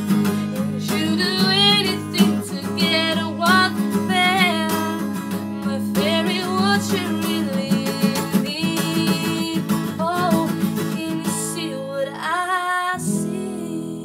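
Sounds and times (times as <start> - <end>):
acoustic guitar strumming: 0.0 - 14.0
woman singing: 0.5 - 14.0.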